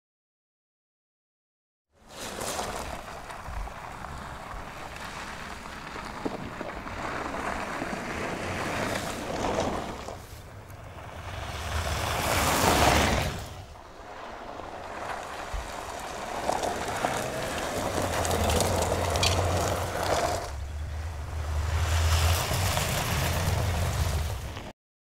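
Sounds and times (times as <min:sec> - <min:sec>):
car driving on dirt track: 0:02.0 - 0:24.7
wind rumbling on microphone: 0:02.2 - 0:24.7.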